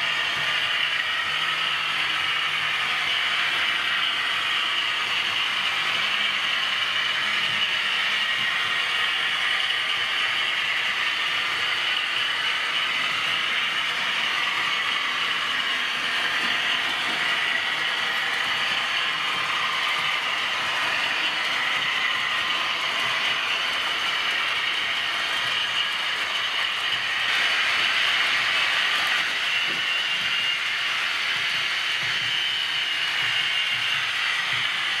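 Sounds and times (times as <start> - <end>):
model locomotive running: 0.0 - 35.0.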